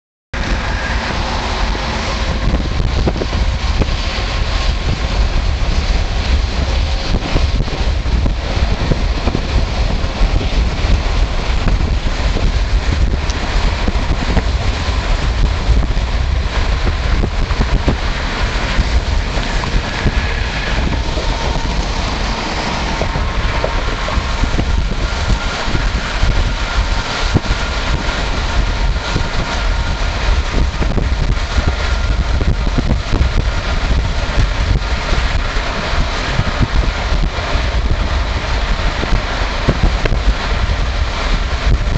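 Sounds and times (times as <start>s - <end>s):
low road rumble: 0.3s - 41.9s
tyre and wind noise: 0.4s - 41.9s.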